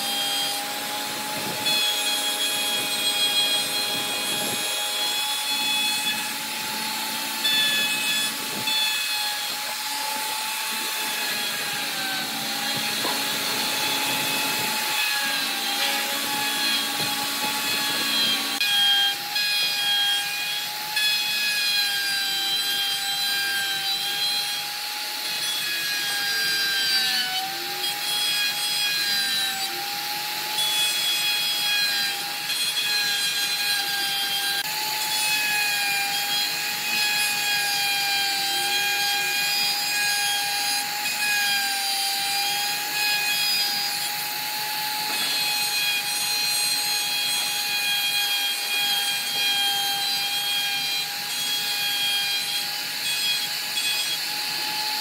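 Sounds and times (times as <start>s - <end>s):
router bit rasping in wood: 0.0s - 55.0s
router motor whine: 0.0s - 55.0s.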